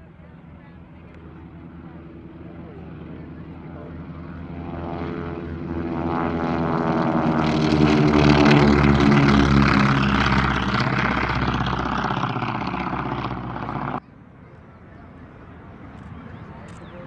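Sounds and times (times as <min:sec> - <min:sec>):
propeller aircraft flying past: 0:00.0 - 0:14.1.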